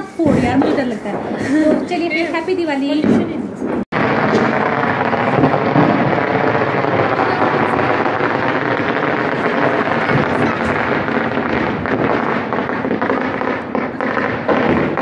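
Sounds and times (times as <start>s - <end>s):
firecrackers and fireworks crackling: 0.0s - 15.0s.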